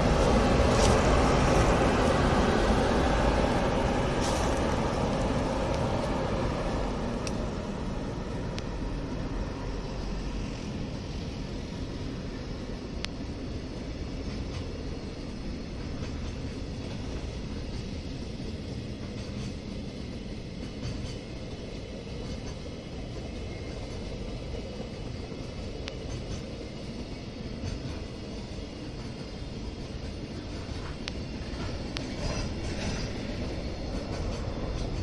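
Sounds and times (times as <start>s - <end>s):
steel wheels rumbling on rail: 0.0s - 35.0s.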